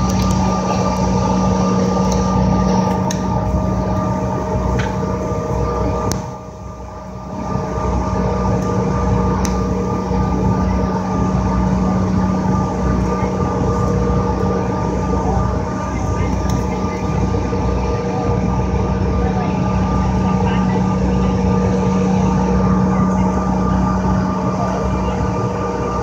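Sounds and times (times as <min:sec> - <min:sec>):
jet engines humming and whining: 0:00.0 - 0:26.0.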